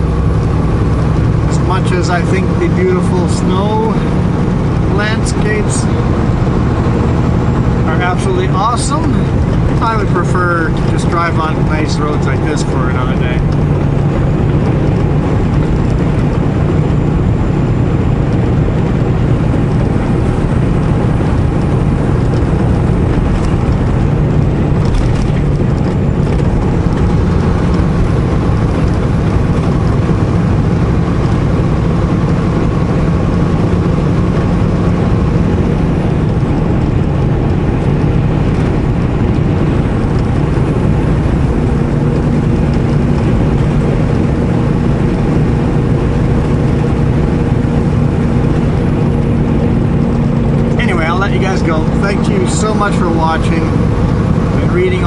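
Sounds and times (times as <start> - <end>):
diesel truck engine: 0.0 - 55.0
road noise: 0.0 - 55.0.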